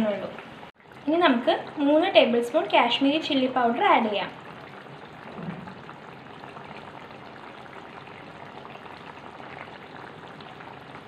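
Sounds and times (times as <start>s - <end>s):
gravy bubbling in a wok: 0.0s - 11.0s.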